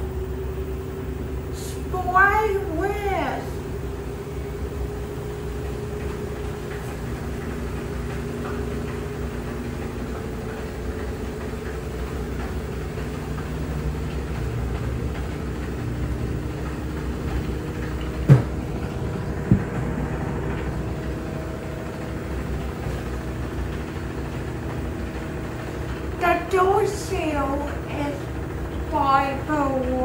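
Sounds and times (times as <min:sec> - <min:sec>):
faint constant whine: 0:00.0 - 0:30.0
washing machine humming: 0:00.0 - 0:30.0.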